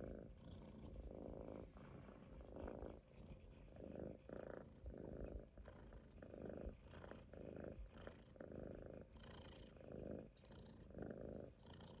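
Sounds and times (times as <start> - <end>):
kitten snoring: 0.0 - 12.0.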